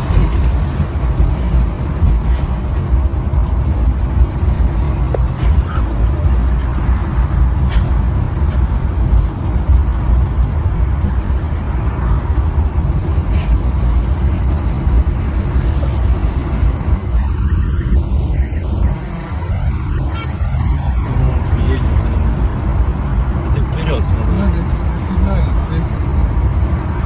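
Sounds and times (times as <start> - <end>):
car engine and tyre noise: 0.0 - 27.0.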